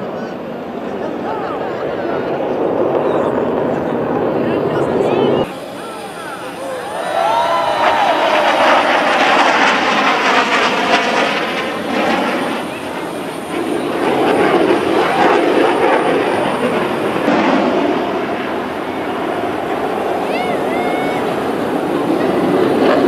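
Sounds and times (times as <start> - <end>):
fighter jets flying past: 0.0 - 23.0.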